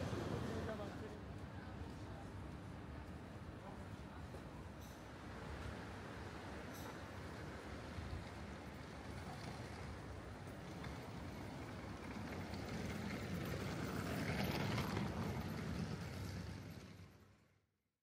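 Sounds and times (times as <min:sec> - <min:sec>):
city traffic noise: 0:00.0 - 0:17.5.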